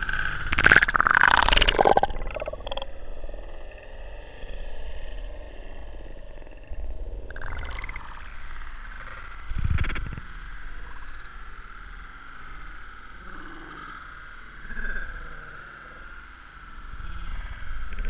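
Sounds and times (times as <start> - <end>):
steady high droning tone: 0.0 - 18.0.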